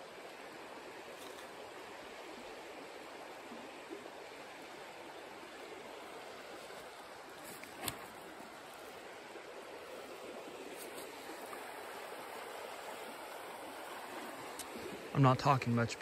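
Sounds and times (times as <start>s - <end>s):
creek running over riffles: 0.0s - 16.0s.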